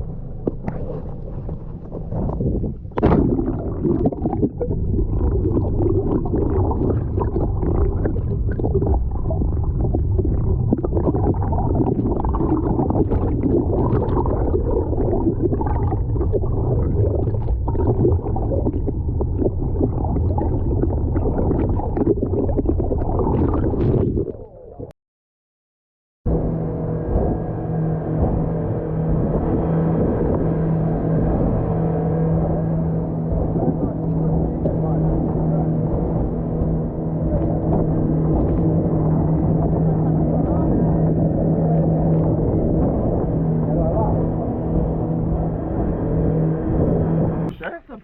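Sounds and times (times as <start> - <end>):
underwater rumbling and gurgling: 0.0 - 25.0, 26.3 - 47.9.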